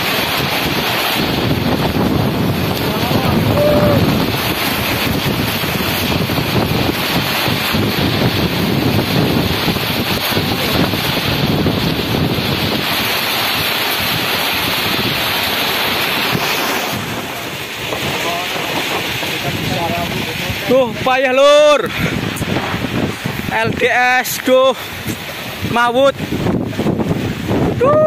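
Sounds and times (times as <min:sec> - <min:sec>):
gusty wind buffeting microphone: 0:00.0 - 0:28.0.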